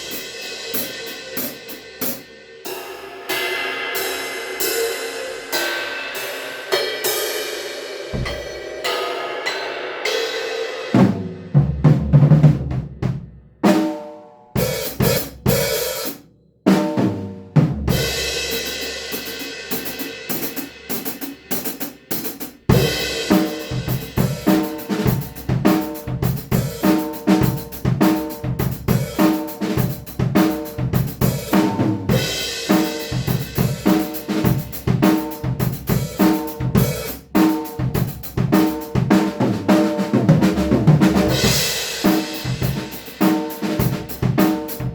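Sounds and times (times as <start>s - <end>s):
acoustic drum kit playing: 0.0s - 3.0s, 8.0s - 44.9s.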